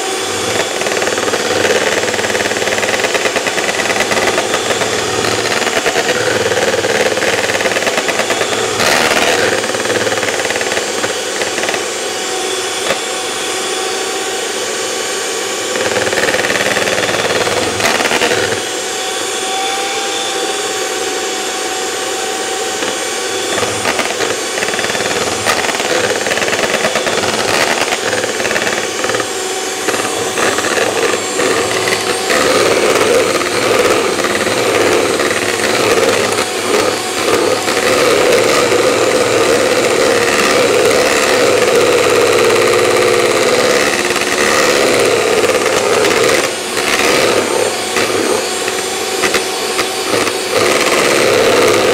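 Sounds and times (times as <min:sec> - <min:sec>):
electric hand mixer whisking: 0:00.0 - 0:51.9.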